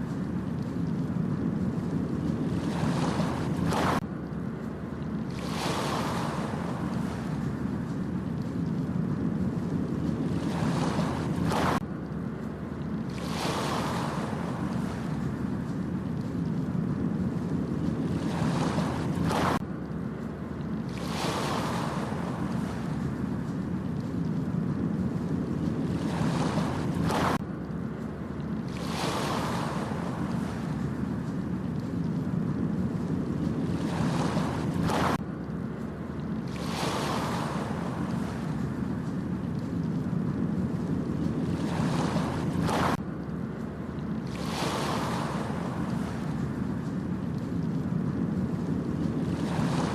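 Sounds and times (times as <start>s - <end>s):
ocean surf on beach: 0.0s - 49.9s.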